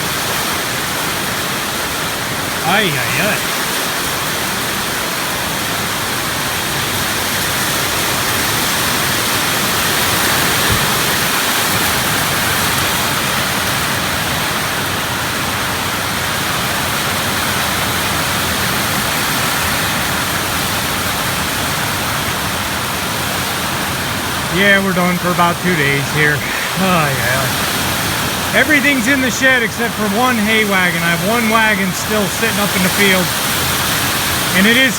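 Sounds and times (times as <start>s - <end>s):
heavy rain pouring: 0.0s - 5.2s, 5.8s - 34.9s.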